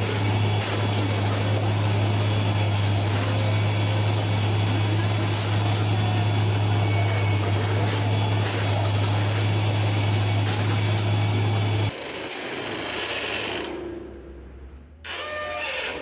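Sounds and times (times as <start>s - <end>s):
track-laying machine drone: 0.0s - 14.4s.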